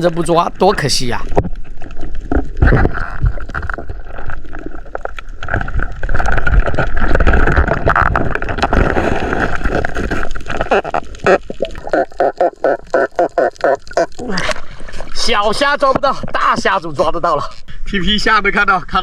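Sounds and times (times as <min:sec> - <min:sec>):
water gurgling and sloshing: 0:00.0 - 0:17.7
small clicks underwater: 0:01.2 - 0:16.7.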